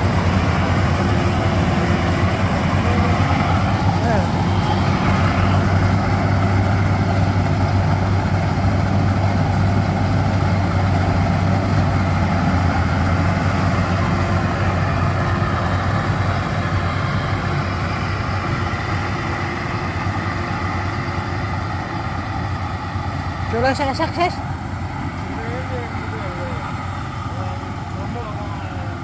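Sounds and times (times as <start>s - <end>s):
combine harvester engine humming: 0.0s - 29.0s.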